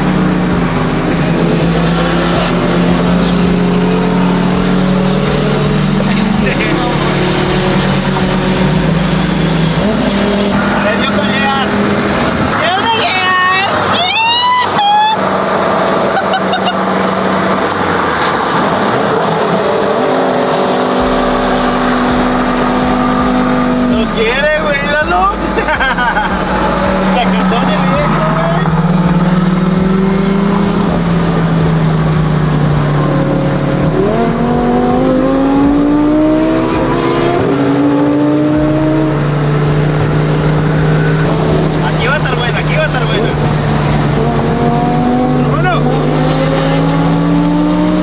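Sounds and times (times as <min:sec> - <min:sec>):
car engine running: 0:00.0 - 0:48.0
road and wind noise: 0:00.0 - 0:48.0.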